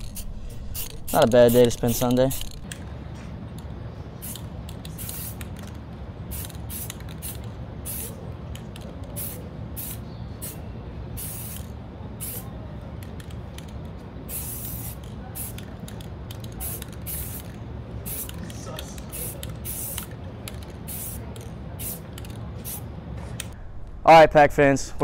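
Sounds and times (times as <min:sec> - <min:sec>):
spray paint can hissing: 0:00.0 - 0:02.7, 0:04.2 - 0:10.6, 0:11.2 - 0:22.8.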